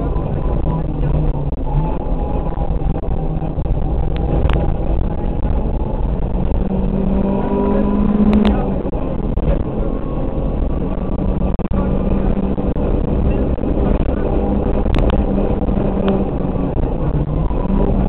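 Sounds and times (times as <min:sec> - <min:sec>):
rally car engine at speed: 0:00.0 - 0:18.0.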